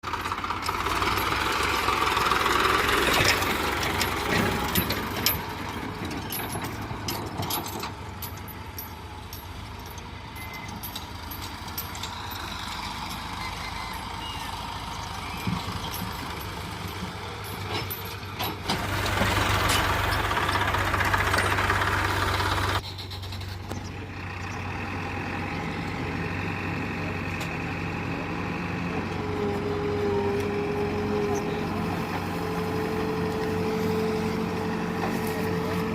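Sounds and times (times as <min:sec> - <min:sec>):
tractor engines running: 0:00.0 - 0:35.9.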